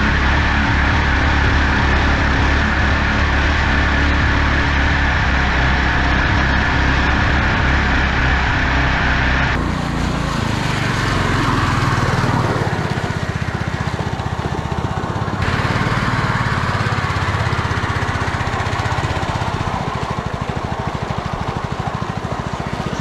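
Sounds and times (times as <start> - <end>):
small single-cylinder engine buzzing: 0.0 - 23.0.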